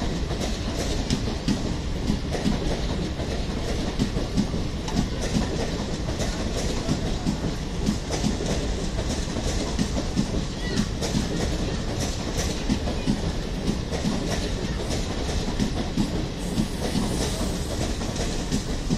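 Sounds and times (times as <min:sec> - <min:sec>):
train coaches rumbling past: 0:00.0 - 0:18.9
wheels clacking over rail joints: 0:00.1 - 0:18.9.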